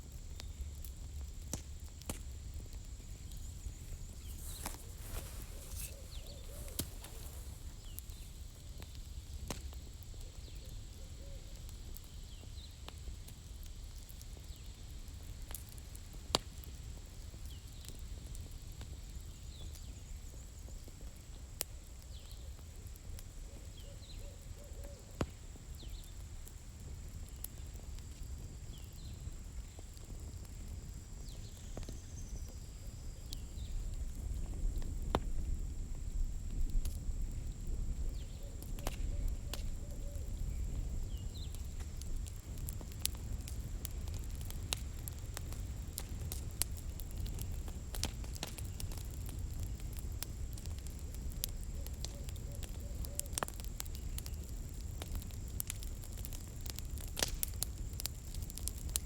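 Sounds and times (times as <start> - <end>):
campfire crackling and popping: 0.0 - 59.0
low rumble of flame: 0.0 - 59.0.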